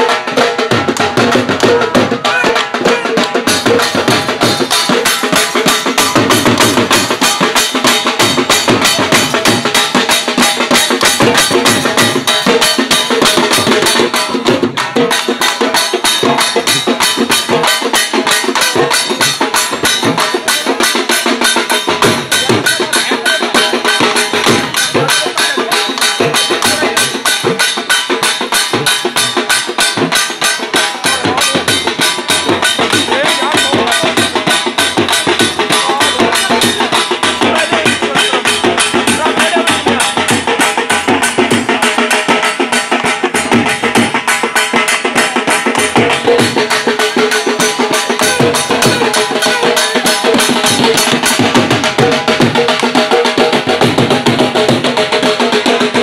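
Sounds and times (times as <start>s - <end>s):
dhol drumming: 0.0s - 56.0s.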